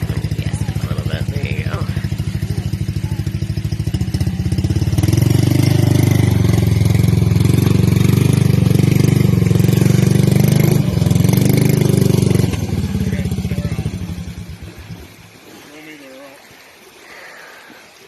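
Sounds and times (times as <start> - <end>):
vehicle engine running hard: 0.0 - 15.1.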